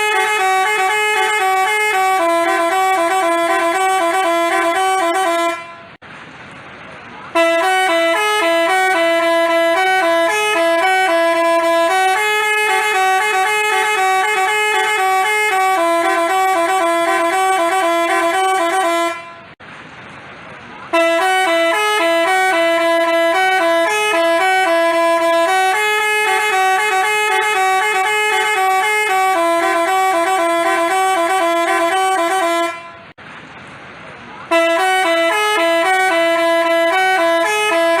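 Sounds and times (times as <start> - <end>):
multi-tone bus horn melody: 0.0 - 6.0, 7.2 - 19.6, 20.9 - 33.2, 34.4 - 38.0.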